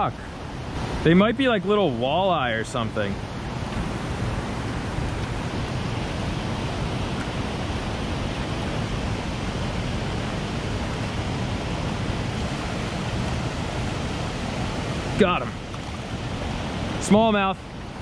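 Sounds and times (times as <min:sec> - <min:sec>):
river water rushing over weir: 0:00.0 - 0:18.0.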